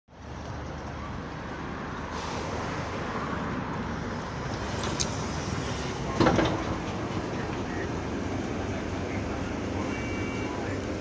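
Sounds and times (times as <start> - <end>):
bus engine running: 0.1 - 11.0
street traffic noise: 0.1 - 11.0.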